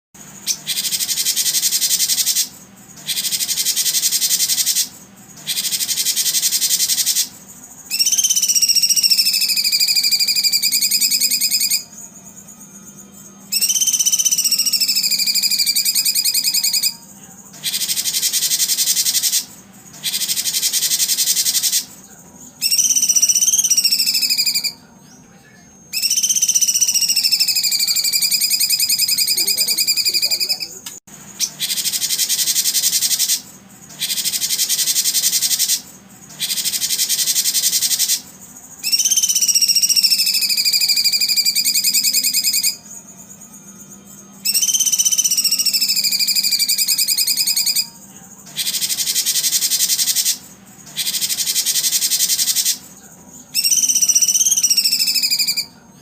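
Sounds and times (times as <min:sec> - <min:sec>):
high buzzing trills: 0:00.2 - 0:56.0
long whistled bird calls: 0:00.4 - 0:07.3, 0:07.9 - 0:11.9, 0:13.5 - 0:17.0, 0:17.6 - 0:21.9, 0:22.6 - 0:24.8, 0:25.9 - 0:30.8, 0:31.4 - 0:42.9, 0:44.4 - 0:52.9, 0:53.5 - 0:55.7.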